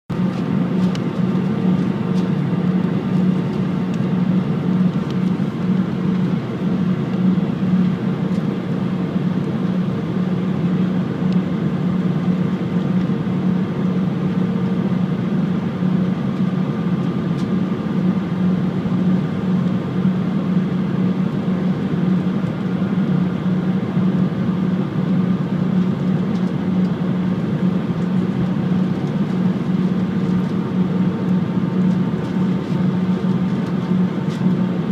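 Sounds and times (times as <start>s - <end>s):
airplane cabin engine and airflow rush: 0.1s - 34.9s
low even hum: 0.1s - 34.9s.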